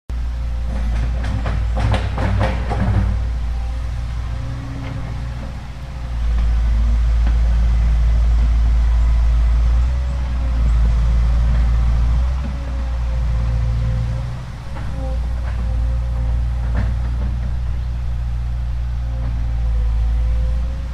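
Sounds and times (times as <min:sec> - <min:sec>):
excavator engine under load: 0:00.1 - 0:20.9.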